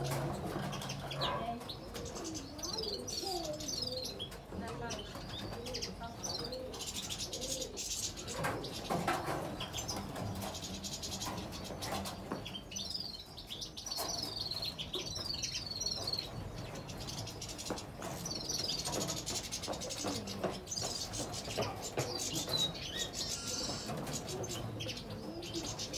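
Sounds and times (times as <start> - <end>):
finches twittering and chirping: 0.0 - 25.9.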